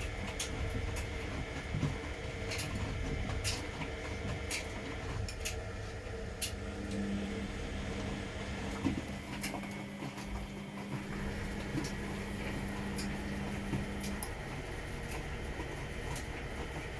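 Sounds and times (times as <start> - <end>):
motor hum: 0.0 - 16.9
washing machine low rumble: 0.0 - 16.9.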